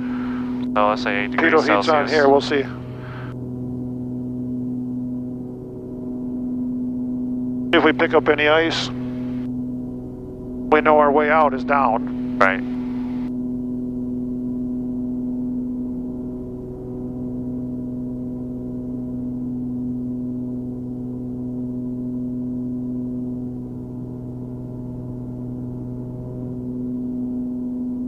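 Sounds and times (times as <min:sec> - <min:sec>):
airplane engine drone in cabin: 0:00.0 - 0:28.0.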